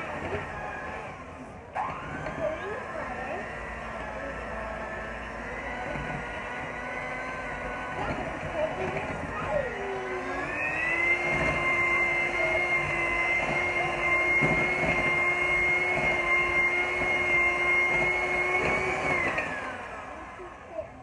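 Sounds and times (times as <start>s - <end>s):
hand mixer motor whine: 0.0s - 21.0s.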